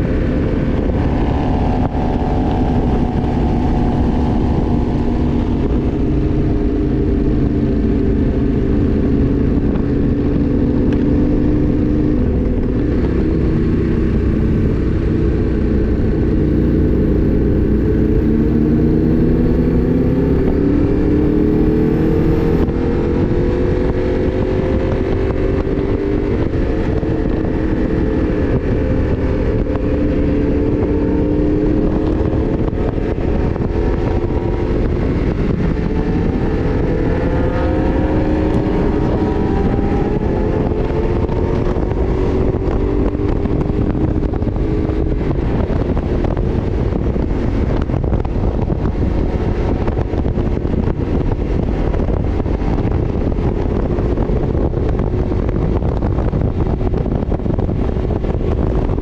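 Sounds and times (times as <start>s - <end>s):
motorcycle engine accelerating: 0.0s - 59.0s
wind rumble on microphone: 0.0s - 59.0s.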